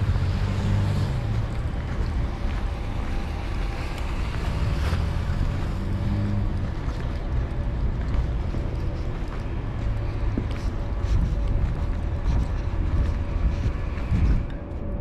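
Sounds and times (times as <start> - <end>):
road traffic drone: 0.0 - 15.0
wind buffeting microphone: 0.0 - 15.0.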